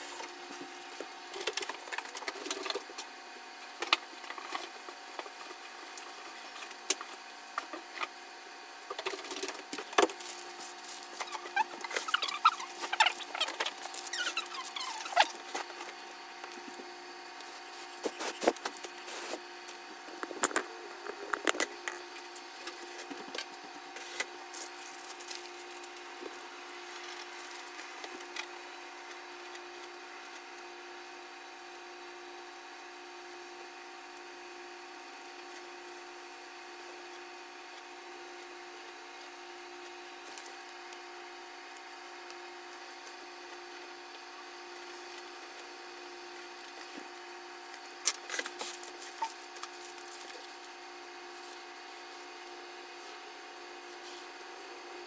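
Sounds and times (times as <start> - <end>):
steady hum with faint hiss: 0.0 - 55.0.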